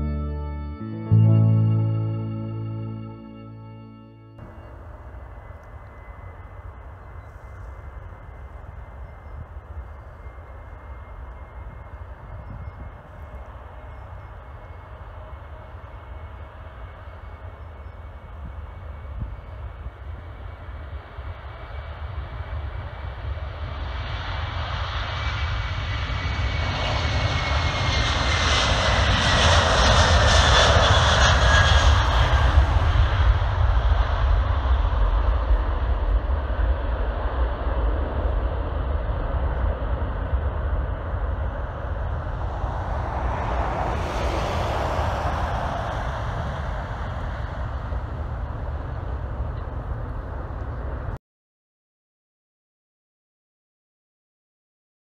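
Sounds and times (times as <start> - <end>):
jet engine whine falling in pitch: 0.0 - 51.2
jet airliner engine noise: 2.4 - 51.2.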